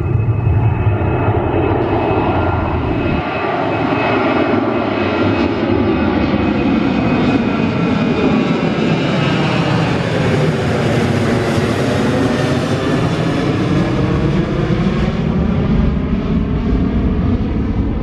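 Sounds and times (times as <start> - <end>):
jet engines at take-off power: 0.0 - 18.0.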